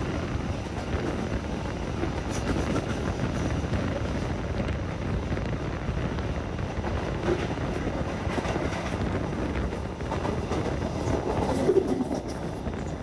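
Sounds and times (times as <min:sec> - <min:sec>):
passenger train running at speed: 0:00.0 - 0:13.0
wheels clicking on track: 0:00.0 - 0:13.0.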